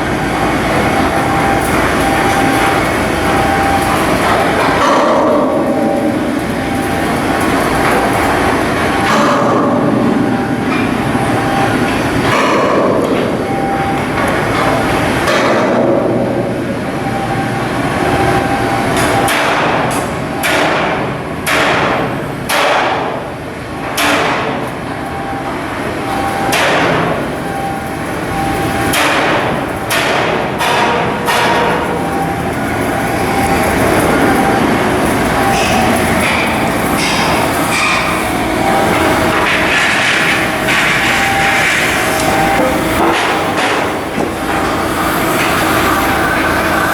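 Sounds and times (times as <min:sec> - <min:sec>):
industrial rumble: 0:00.0 - 0:46.9.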